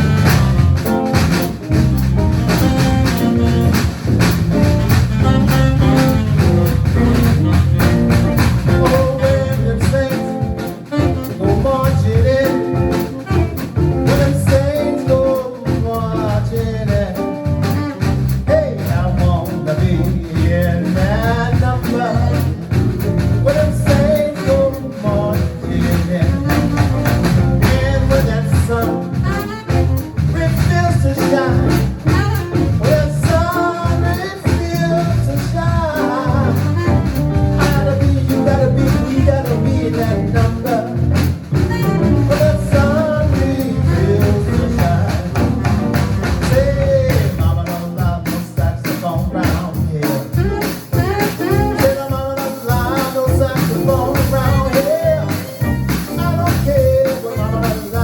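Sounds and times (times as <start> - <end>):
jazz band playing: 0.0 - 58.0.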